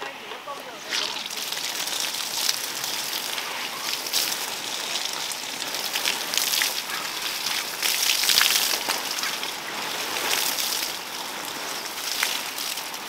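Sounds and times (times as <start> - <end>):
water splashing and pattering: 0.0 - 13.0.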